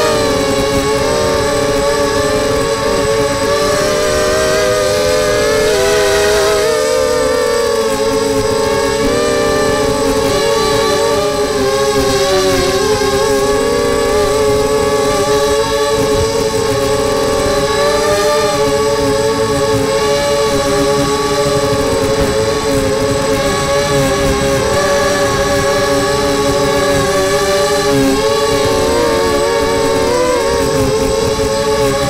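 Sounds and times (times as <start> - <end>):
quadcopter motors whining: 0.0 - 32.0
wind buffeting microphone: 0.0 - 32.0.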